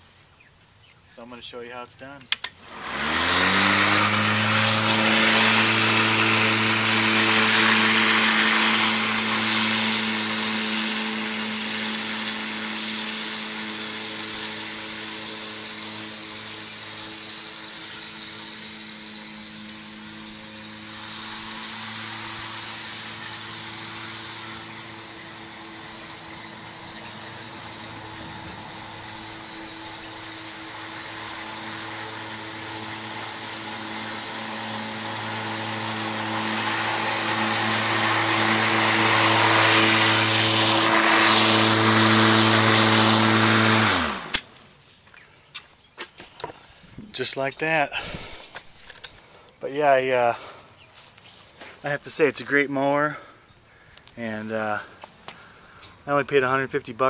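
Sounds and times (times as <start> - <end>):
electric lawn mower cutting grass: 2.3 - 57.0.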